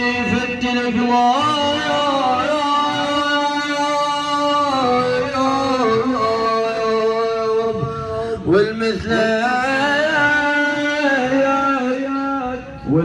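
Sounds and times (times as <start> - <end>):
man chanting lament: 0.0 - 13.0.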